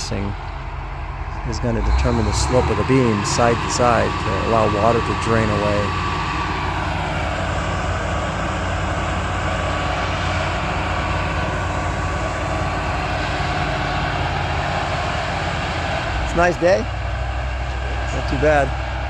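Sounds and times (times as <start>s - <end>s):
heavy machinery engine running: 0.0s - 19.0s.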